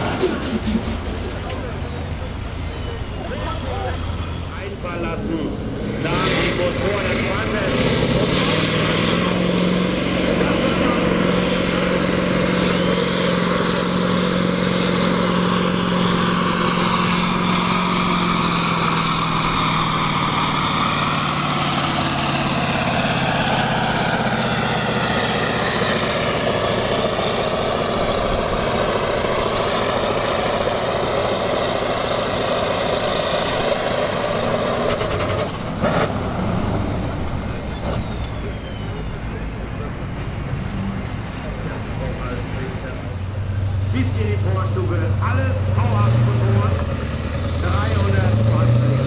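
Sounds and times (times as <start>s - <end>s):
diesel tractor engine under load: 0.0s - 49.0s.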